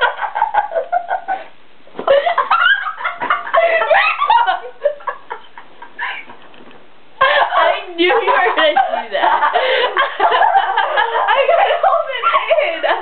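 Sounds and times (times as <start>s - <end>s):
girls giggling: 0.0s - 6.4s, 7.2s - 13.0s.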